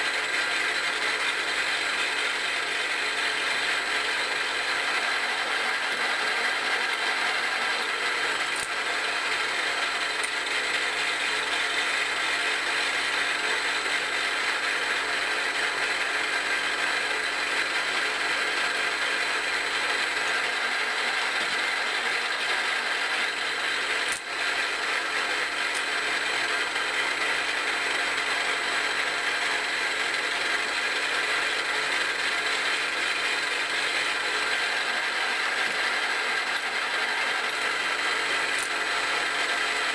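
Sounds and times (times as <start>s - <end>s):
milling machine whirring: 0.0s - 39.9s.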